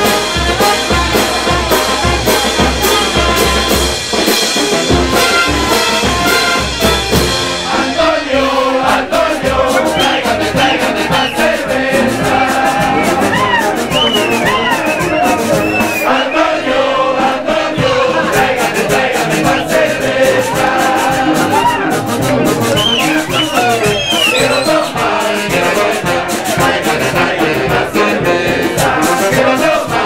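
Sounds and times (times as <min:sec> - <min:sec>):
brass band playing: 0:00.0 - 0:30.0
steady drum beat: 0:00.0 - 0:30.0.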